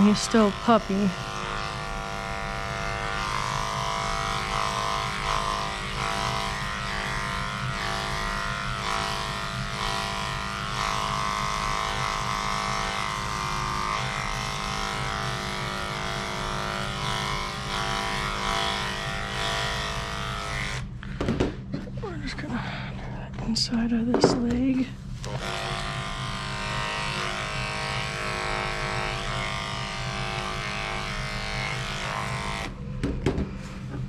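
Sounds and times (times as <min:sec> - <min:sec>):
dog clippers humming: 0:00.0 - 0:22.4, 0:23.8 - 0:33.2.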